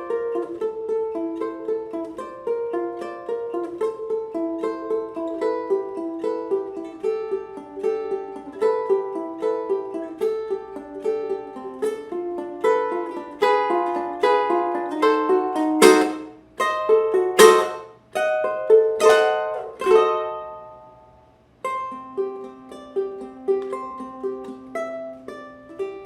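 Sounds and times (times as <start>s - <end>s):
ukulele picked melody: 0.0s - 26.0s
ukulele strummed chords: 0.0s - 26.0s.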